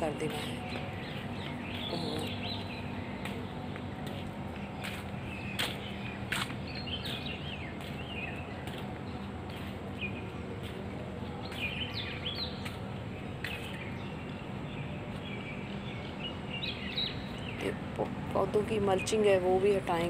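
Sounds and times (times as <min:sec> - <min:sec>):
low background hum: 0:00.0 - 0:20.0
small birds chirping: 0:00.0 - 0:20.0.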